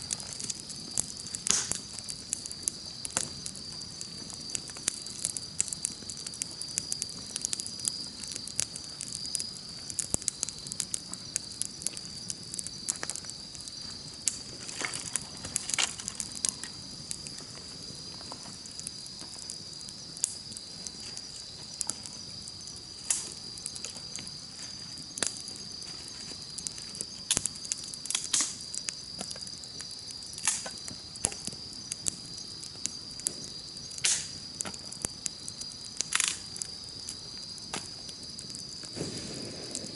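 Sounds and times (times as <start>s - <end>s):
campfire crackling and popping: 0.0s - 39.9s
insect trill: 0.0s - 39.9s.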